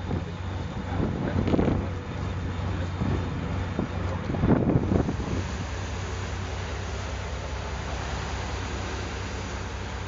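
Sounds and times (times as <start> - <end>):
boat engine running: 0.0 - 10.0
wind buffeting microphone: 0.0 - 10.0.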